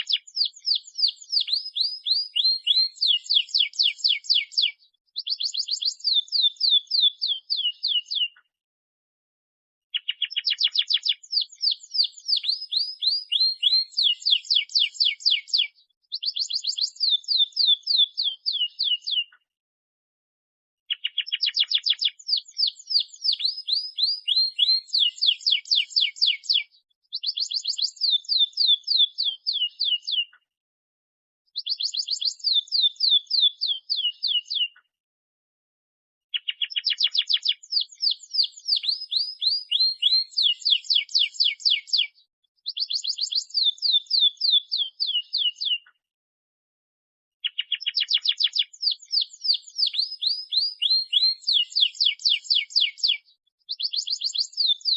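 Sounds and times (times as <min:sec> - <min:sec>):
canary singing: 0:00.0 - 0:08.4, 0:09.9 - 0:19.4, 0:20.9 - 0:30.4, 0:31.6 - 0:34.8, 0:36.3 - 0:46.0, 0:47.4 - 0:54.9.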